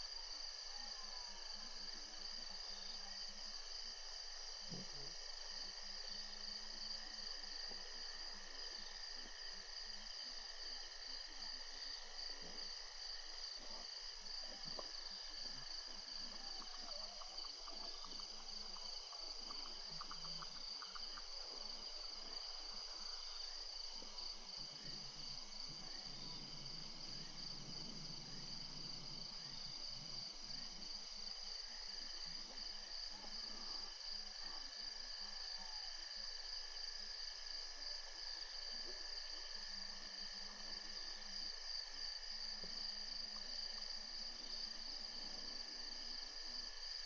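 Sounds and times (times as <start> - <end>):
night insects chorus: 0.0 - 47.0.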